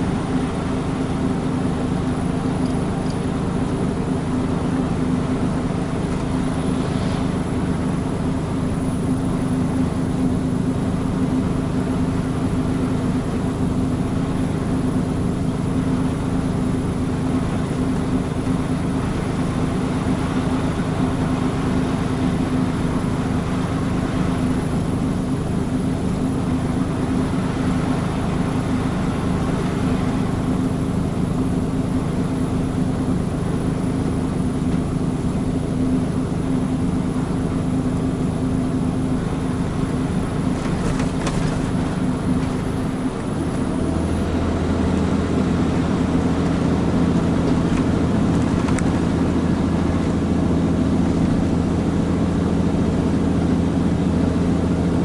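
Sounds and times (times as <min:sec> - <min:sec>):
diesel truck engine running: 0:00.0 - 0:55.0
road noise: 0:00.0 - 0:55.0.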